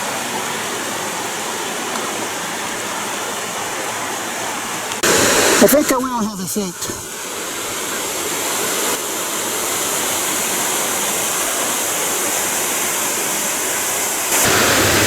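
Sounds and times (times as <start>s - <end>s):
waterfall rushing roar: 0.0s - 15.0s.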